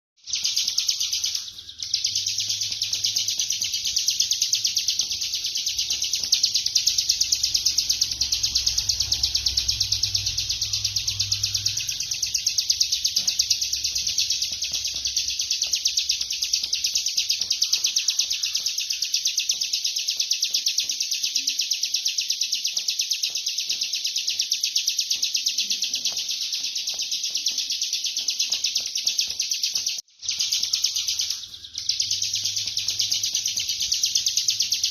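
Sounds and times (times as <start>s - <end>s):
bird trilling song: 0.2s - 34.9s.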